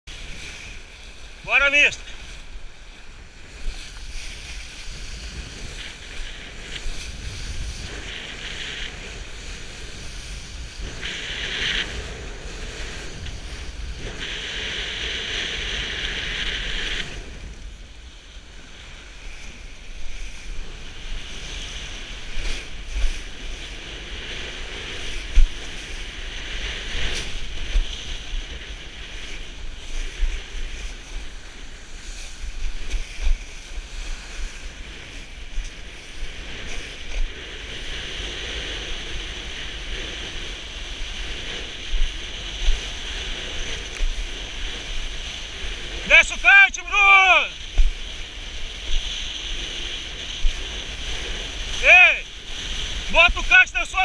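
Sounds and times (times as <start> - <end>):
water rushing and hissing: 0.1 - 54.0
wind buffeting microphone: 0.1 - 54.0.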